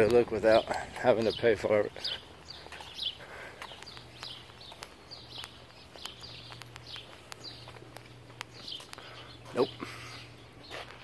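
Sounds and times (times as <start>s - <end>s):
small bird chirps: 1.2s - 11.0s.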